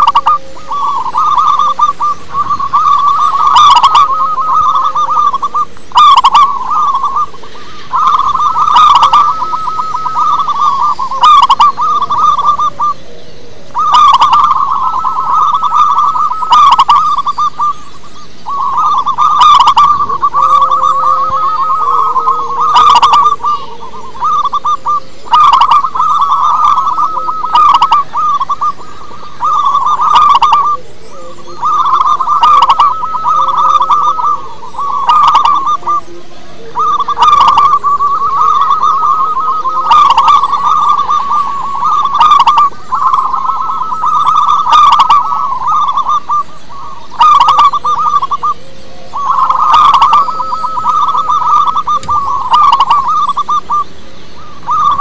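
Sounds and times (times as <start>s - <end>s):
dove cooing trills: 0.0s - 55.0s.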